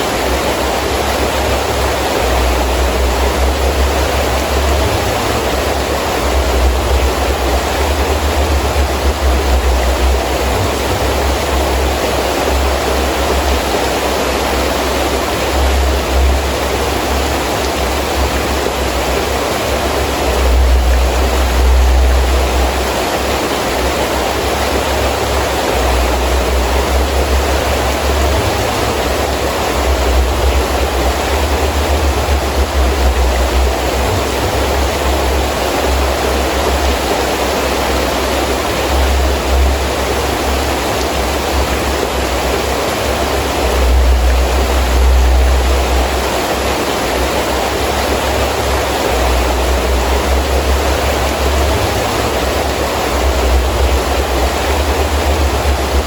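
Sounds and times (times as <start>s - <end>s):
gusting wind: 0.0s - 56.0s
heavy rain falling: 0.0s - 56.0s.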